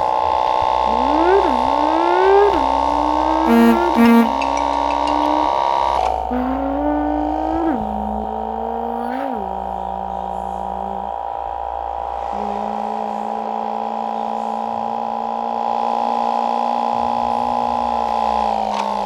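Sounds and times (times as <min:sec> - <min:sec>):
motorcycle engine at high revs: 0:00.0 - 0:19.0.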